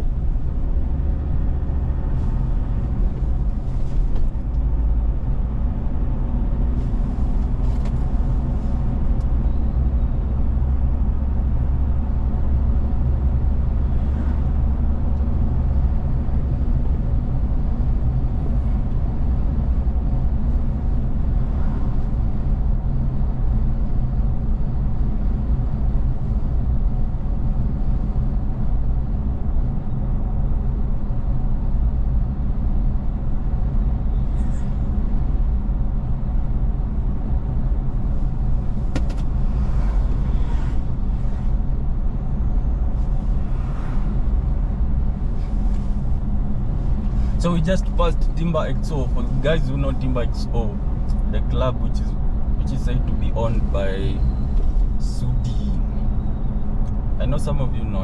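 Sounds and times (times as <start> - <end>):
vehicle engine hum and road noise: 0.0 - 58.0.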